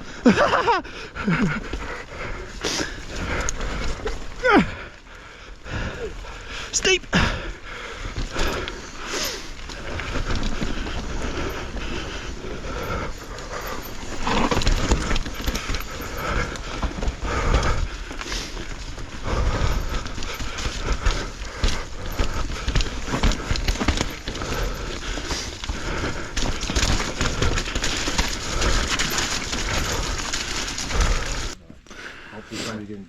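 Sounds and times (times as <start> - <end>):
bike tyres rolling over roots: 0.0 - 31.6.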